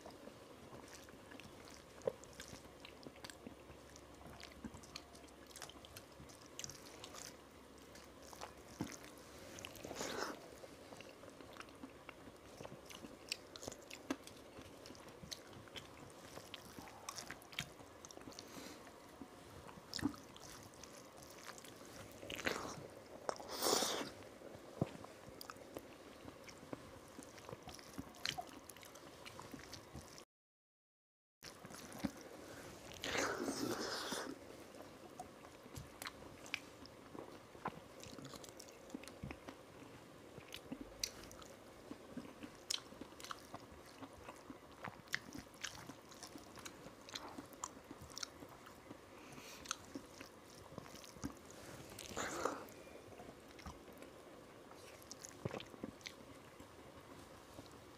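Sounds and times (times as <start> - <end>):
chewing and lip-smacking: 0.0 - 30.2, 31.4 - 57.9.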